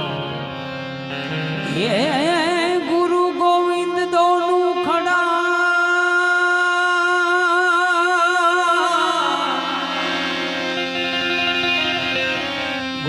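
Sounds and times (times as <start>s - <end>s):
harmonium: 0.0s - 13.0s.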